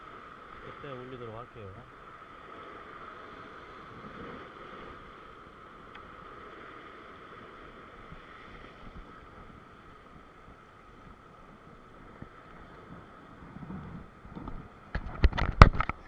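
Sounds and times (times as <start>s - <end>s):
surf washing over rocks: 0.0s - 16.0s
wind buffeting microphone: 2.8s - 16.0s.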